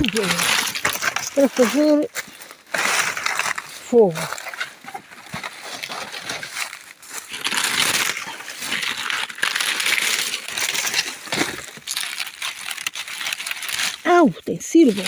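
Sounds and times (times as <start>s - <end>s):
dry bark and brush crunching: 0.0s - 15.0s.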